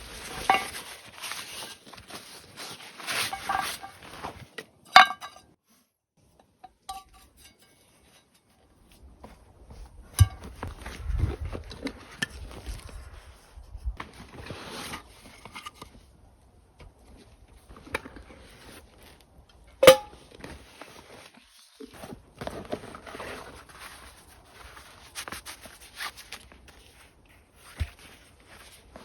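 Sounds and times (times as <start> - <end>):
rustling of camp gear: 0.0 - 29.0.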